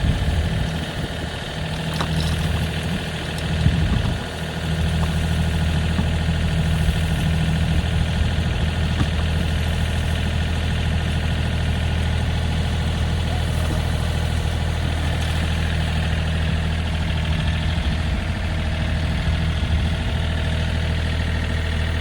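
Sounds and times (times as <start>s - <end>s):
loader engine idling: 0.0s - 22.0s.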